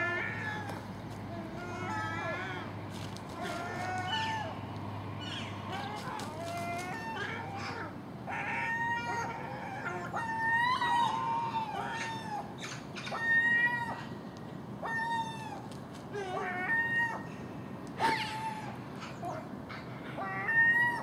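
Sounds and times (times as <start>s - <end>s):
gulls mewing calls: 0.0s - 21.0s.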